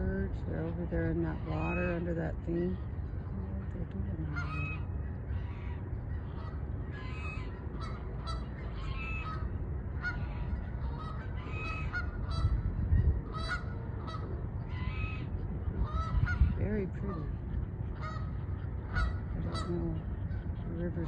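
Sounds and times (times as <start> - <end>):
steady low rumble: 0.0 - 21.0
geese honking: 0.5 - 21.0.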